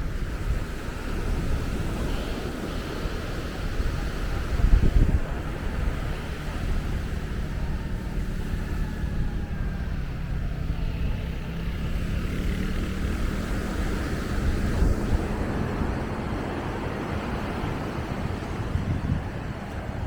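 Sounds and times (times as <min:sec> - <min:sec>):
engine hum: 0:00.0 - 0:20.0
wind rumble on microphone: 0:00.0 - 0:20.0.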